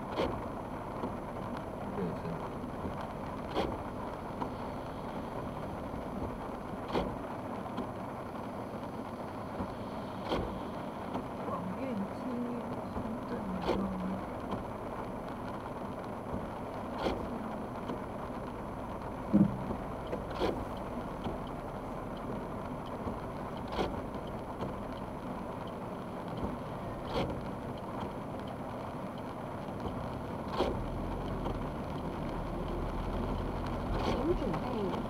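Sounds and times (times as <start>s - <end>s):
car road and tyre noise: 0.0s - 35.0s.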